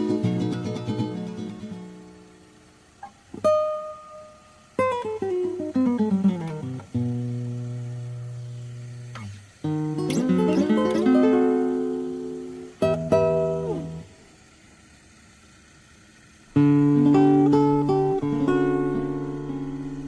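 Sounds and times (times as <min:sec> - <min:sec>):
strummed guitar chords: 0:00.0 - 0:02.5, 0:03.3 - 0:14.3, 0:16.5 - 0:20.0.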